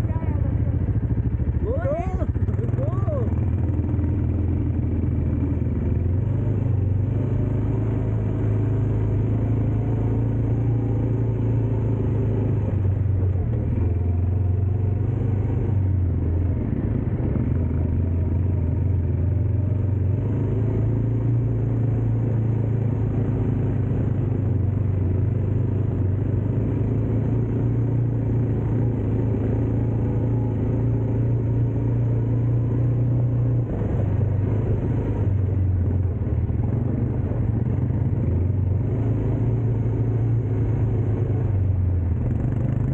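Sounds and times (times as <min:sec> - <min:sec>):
dirt bike engine droning: 0:00.0 - 0:42.9.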